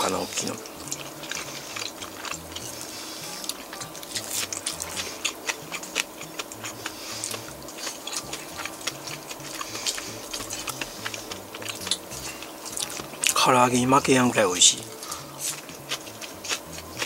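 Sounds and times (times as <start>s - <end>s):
chewing crispy fried fish: 0.0s - 17.0s
faint steady hum: 0.0s - 17.0s.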